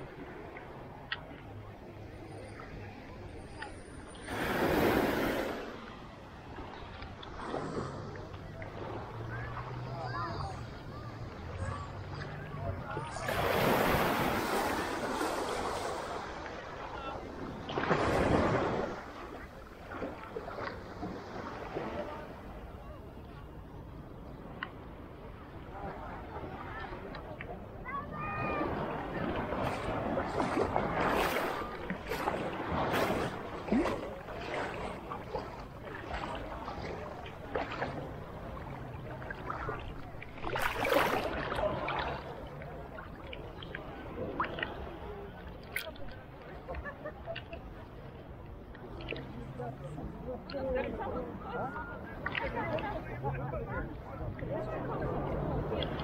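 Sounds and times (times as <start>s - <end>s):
low surf wash: 0.0s - 56.0s
water sloshing and splashing: 0.0s - 56.0s
waves washing in: 0.0s - 56.0s.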